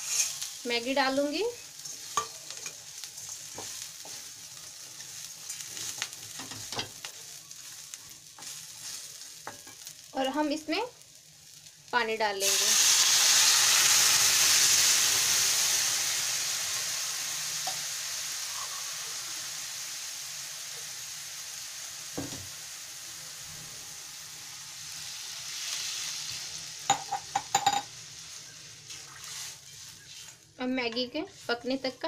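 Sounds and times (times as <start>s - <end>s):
water sizzling in hot pan: 0.0s - 32.0s.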